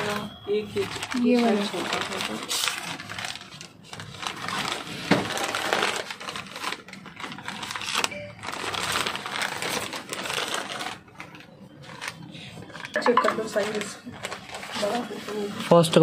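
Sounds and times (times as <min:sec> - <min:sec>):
small items rustling and clattering: 0:00.0 - 0:16.0.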